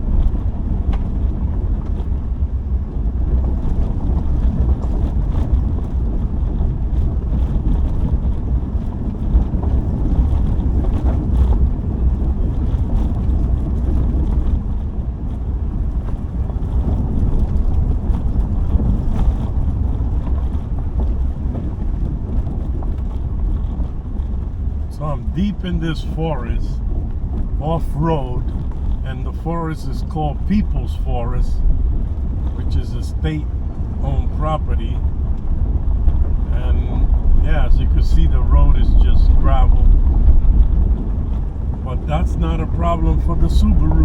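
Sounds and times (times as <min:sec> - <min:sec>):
tyres and engine rumble: 0:00.0 - 0:44.0
wind noise on microphone: 0:00.0 - 0:44.0.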